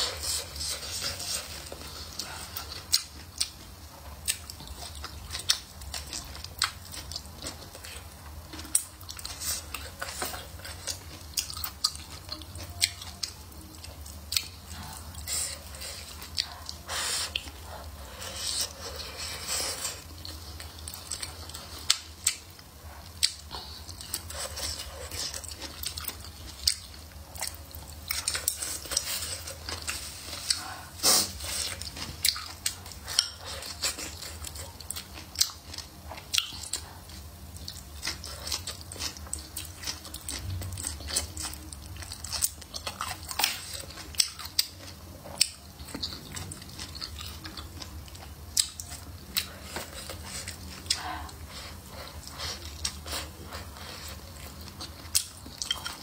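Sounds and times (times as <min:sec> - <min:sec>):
chewing and biting: 0:00.0 - 0:56.0.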